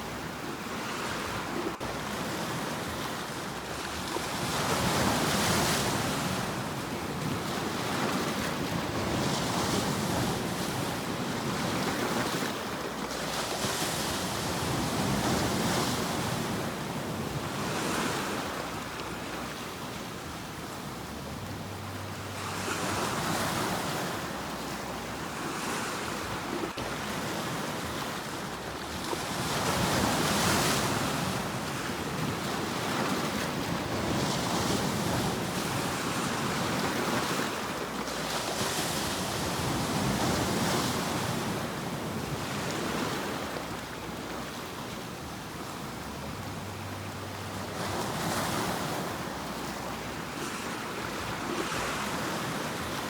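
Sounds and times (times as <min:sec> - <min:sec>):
sea waves breaking: 0:00.0 - 0:53.0.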